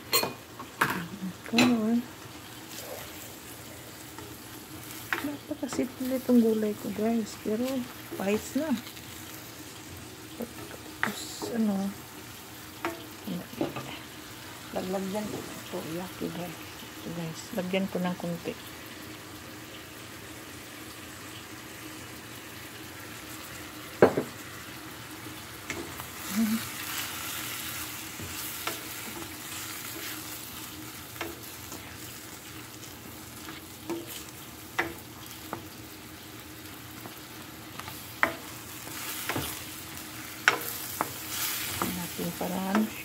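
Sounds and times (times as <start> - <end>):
vegetables sizzling in skillet: 0.0 - 43.0.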